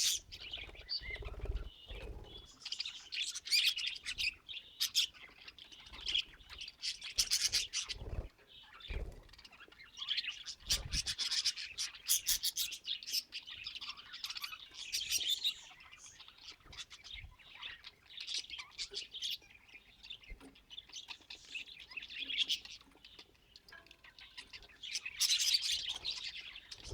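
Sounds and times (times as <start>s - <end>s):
budgerigars chattering: 0.0s - 26.9s.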